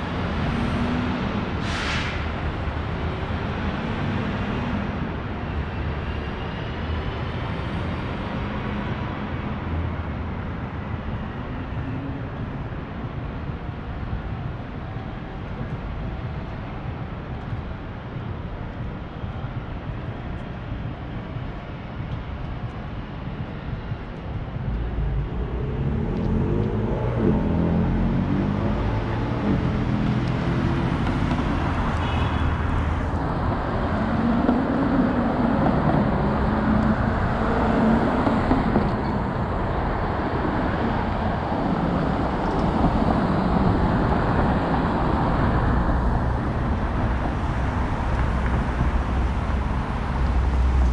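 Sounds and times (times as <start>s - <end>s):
vehicles passing: 0.0s - 50.9s.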